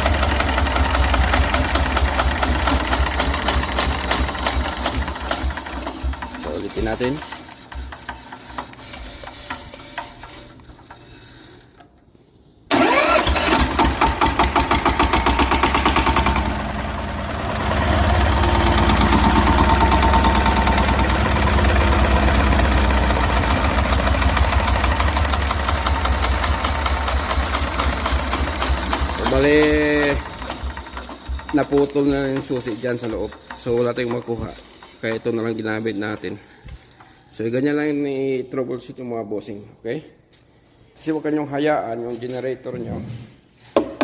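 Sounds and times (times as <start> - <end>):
diesel generator engine starting: 0.0 - 11.8, 12.7 - 37.5.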